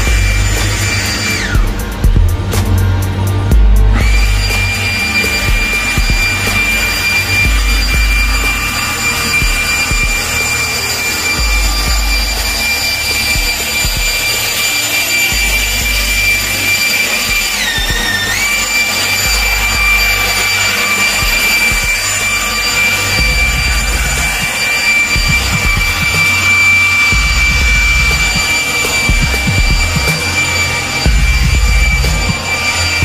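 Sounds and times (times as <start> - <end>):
leaf blower running: 0.0 - 33.0.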